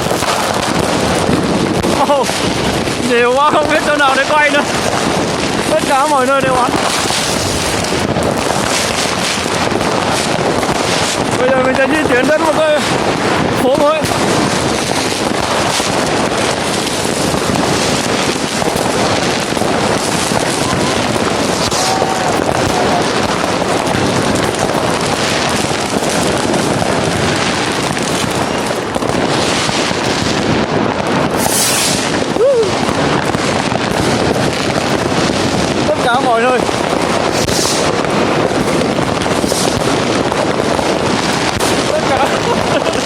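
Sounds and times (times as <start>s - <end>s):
fireworks crackling and banging: 0.0s - 43.0s.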